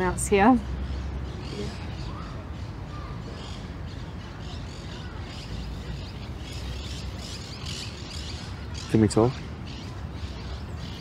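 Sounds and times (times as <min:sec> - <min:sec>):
low outdoor background noise: 0:00.0 - 0:11.0
small birds chirping: 0:00.0 - 0:11.0.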